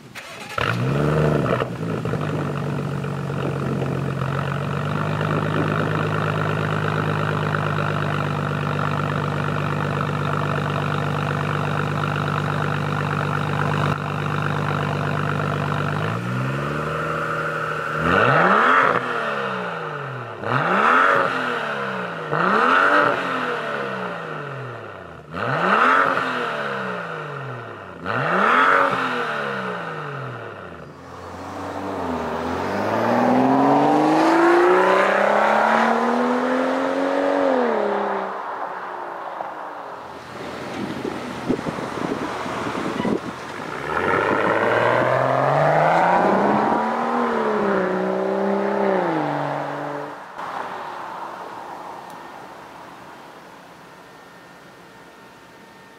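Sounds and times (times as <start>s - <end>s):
car engine starting and revving: 0.0s - 55.9s.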